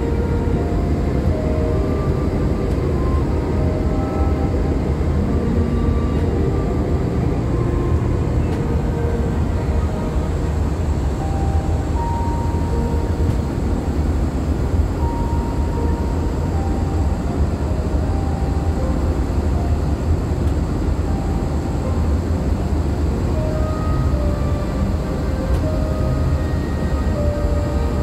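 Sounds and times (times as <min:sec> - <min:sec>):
jet engine low rumble: 0:00.0 - 0:28.0.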